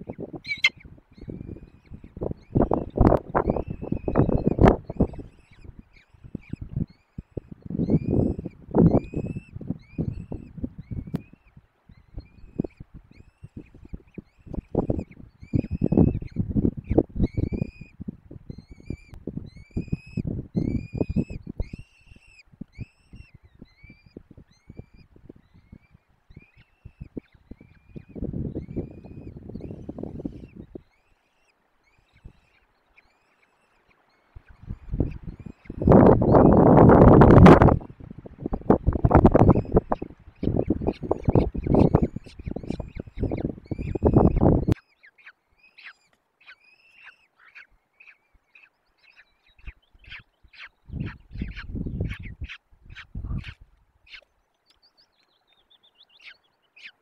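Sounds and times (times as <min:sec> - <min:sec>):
falcon chicks cheeping: 0:00.0 - 0:57.0.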